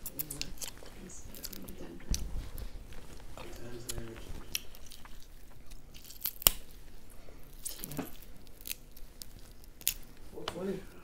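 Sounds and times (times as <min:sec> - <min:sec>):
crawfish shell cracking: 0:00.0 - 0:10.8.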